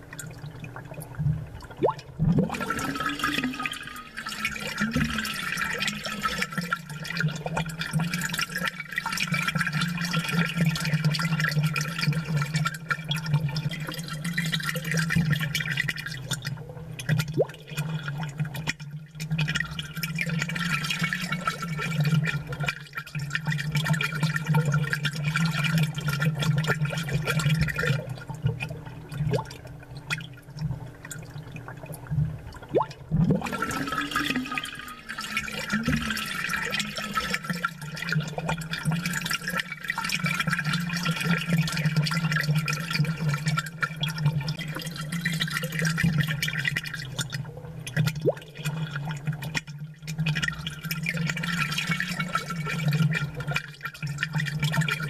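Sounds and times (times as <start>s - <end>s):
constant low hum: 0.0s - 53.6s
aquarium air bubbles gurgling: 0.0s - 55.0s.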